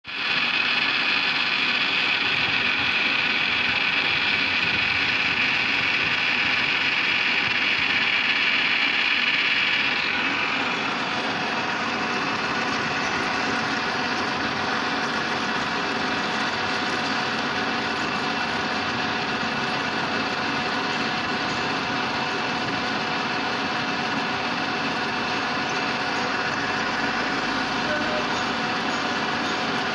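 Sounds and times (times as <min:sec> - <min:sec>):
lathe whining: 0:00.1 - 0:29.9.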